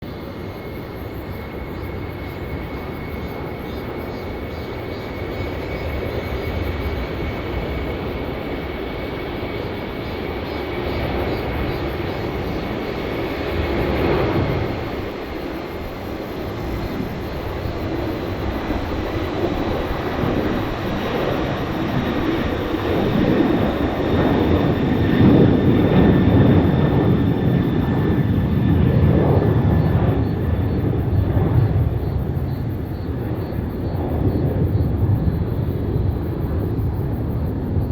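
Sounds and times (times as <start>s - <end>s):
jet engines at takeoff: 0.0s - 37.9s.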